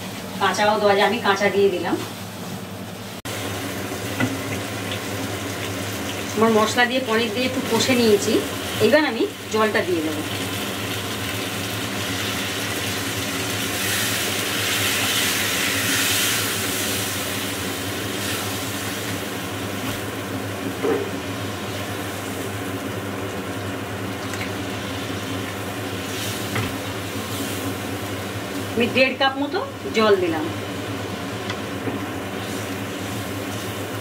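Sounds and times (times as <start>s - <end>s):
mechanical hum: 0.0s - 34.0s
water sizzling in hot pan: 3.3s - 29.9s, 30.6s - 34.0s.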